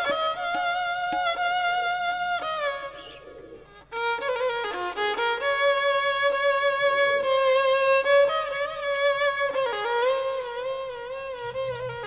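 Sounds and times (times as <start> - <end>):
slow bowed string melody: 0.0 - 12.0.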